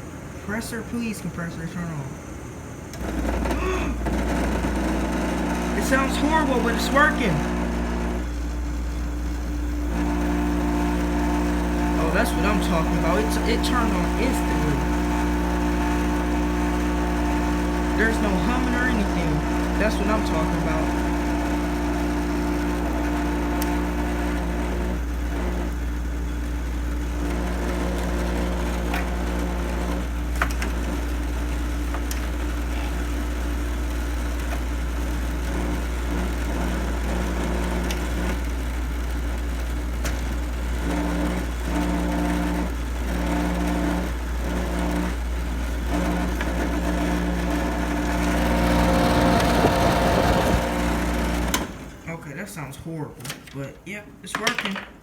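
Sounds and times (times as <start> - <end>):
window air conditioner droning: 0.0 - 55.0.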